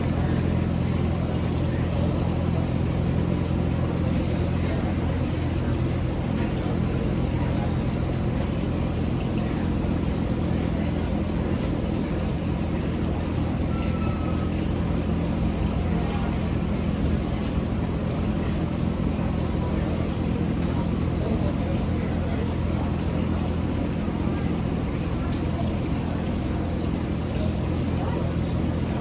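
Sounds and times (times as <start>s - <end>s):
fans whirring: 0.0s - 29.0s
generator humming: 0.0s - 29.0s.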